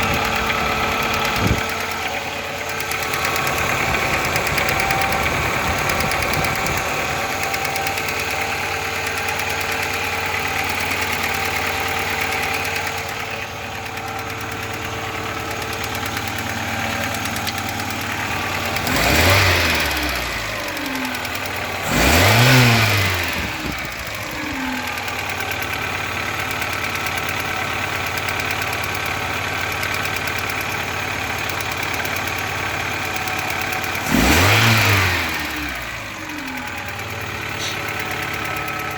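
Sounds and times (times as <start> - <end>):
car engine idling and revving: 0.0 - 38.9
engine knock: 0.0 - 38.9.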